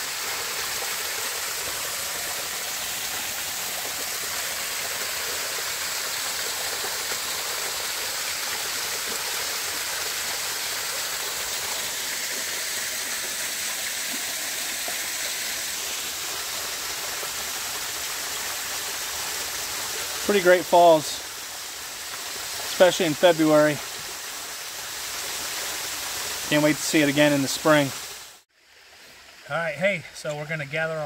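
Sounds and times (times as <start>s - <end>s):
waterfall splashing into pool: 0.0s - 31.0s.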